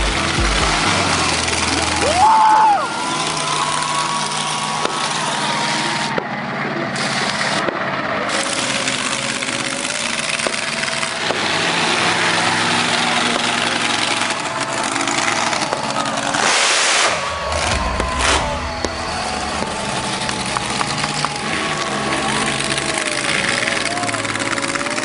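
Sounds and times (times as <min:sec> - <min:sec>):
dense noisy rush: 0:00.0 - 0:25.0
monster truck engine running: 0:00.0 - 0:25.0.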